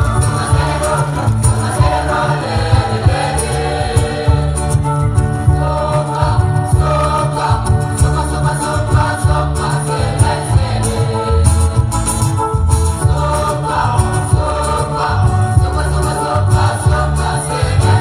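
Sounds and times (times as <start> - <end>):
choir singing: 0.0 - 18.0
deep pulsing bass: 0.0 - 18.0.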